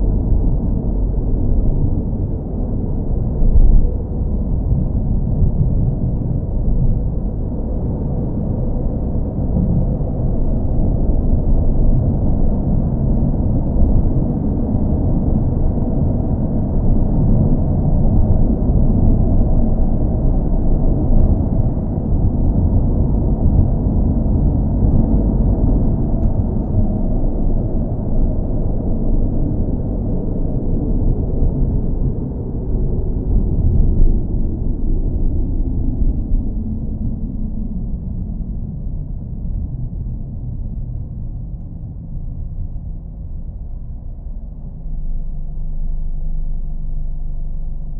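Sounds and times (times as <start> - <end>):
car engine rumble: 0.0 - 47.9.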